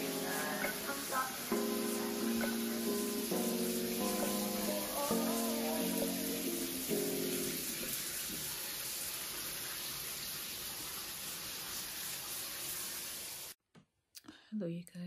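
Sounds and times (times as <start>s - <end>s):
shower water spraying on tiles: 0.0s - 13.6s.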